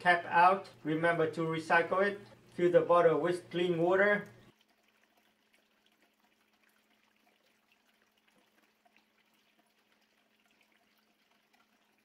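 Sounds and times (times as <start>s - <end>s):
water trickling into plastic bottle: 1.9s - 12.0s.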